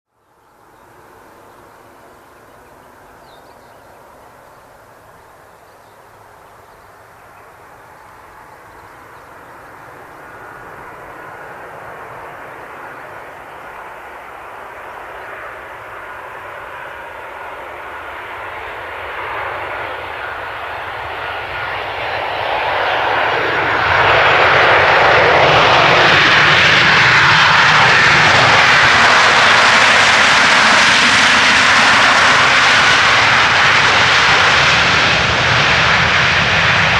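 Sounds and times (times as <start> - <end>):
jet airliner approaching: 0.2 - 36.9.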